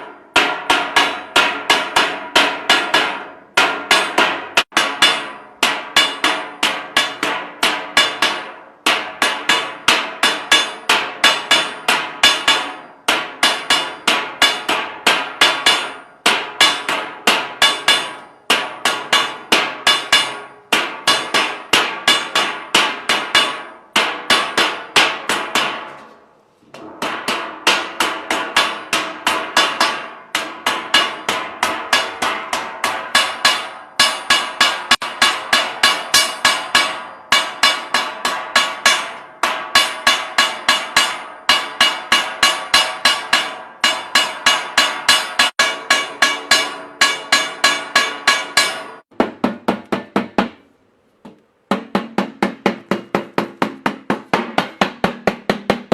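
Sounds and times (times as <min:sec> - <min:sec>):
hand hammer blows ringing: 0:00.1 - 0:26.1, 0:26.8 - 0:50.6, 0:51.3 - 0:55.9.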